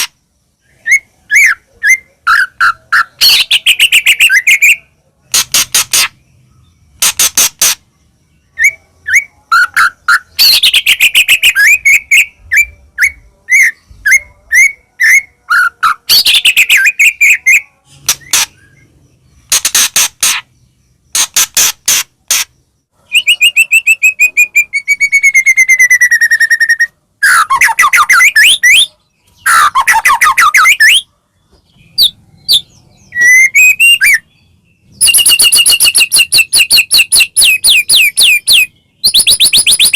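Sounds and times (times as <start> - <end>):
songbird singing loudly: 0.0 - 39.9.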